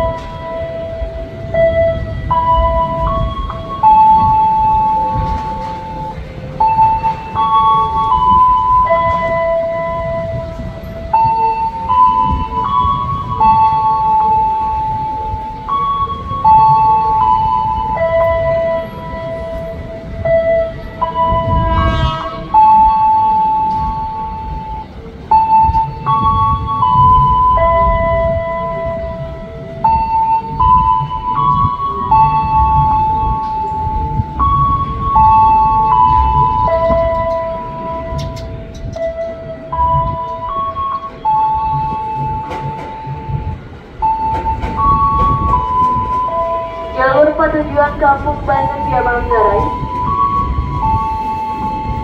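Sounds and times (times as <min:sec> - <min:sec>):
approaching train rumble: 0:00.0 - 0:52.0
electronic melody over loudspeakers: 0:00.0 - 0:52.0.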